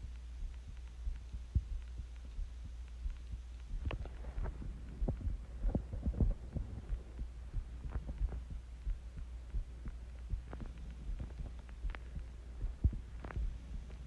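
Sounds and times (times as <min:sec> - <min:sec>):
heartbeat thumps: 0:00.0 - 0:14.0
steady low hum: 0:00.0 - 0:14.0.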